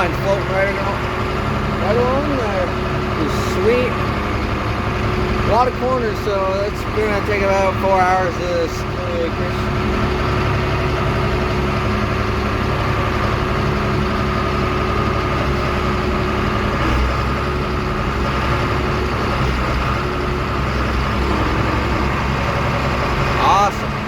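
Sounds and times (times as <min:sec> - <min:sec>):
heavy machinery engine running: 0:00.0 - 0:24.0.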